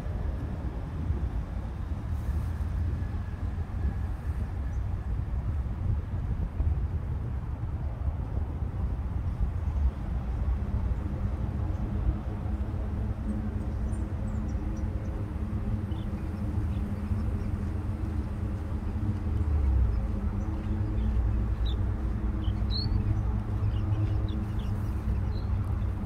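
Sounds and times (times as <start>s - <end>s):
low rumble with faint hum: 0.0s - 26.0s.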